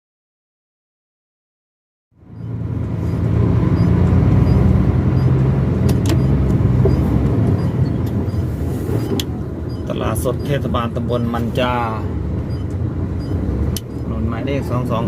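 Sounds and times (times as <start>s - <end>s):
car engine and road rumble: 2.1s - 15.0s.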